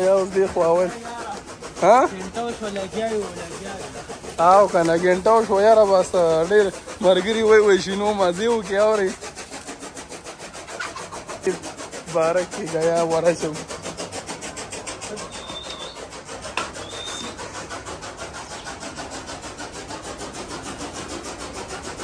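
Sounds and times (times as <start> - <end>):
machine running rhythmically: 0.0 - 22.0.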